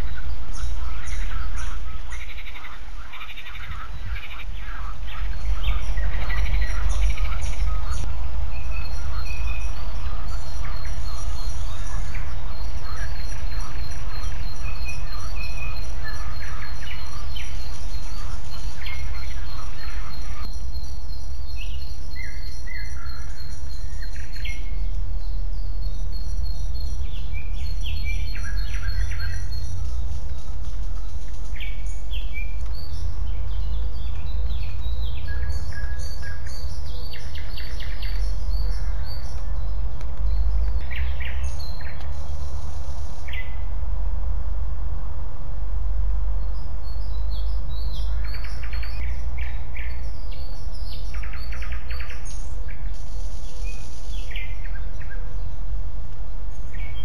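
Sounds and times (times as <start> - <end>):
songbirds chirping and calling: 0.0 - 45.2, 45.8 - 57.0
steady low rumble: 0.0 - 57.0.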